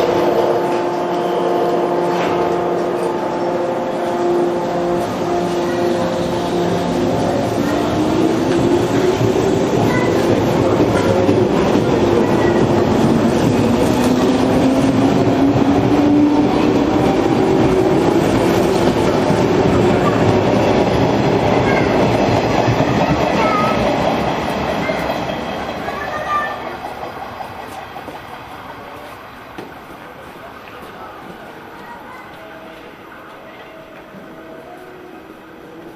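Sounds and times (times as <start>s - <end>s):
train wheels rumbling and clattering: 0.0s - 35.9s.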